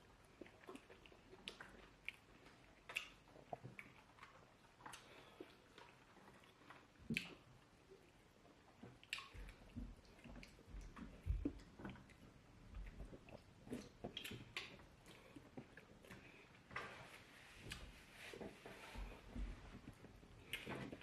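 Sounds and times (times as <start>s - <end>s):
wet chewing and lip smacks: 0.2s - 16.7s, 19.0s - 21.0s.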